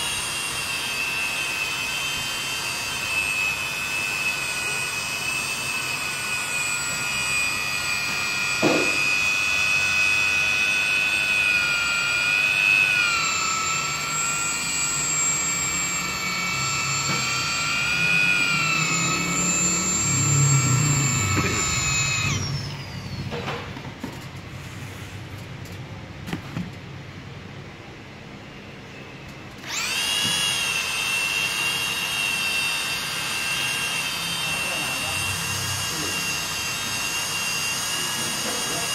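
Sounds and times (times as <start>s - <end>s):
electric polisher motor whine: 0.0s - 24.2s, 29.6s - 38.9s.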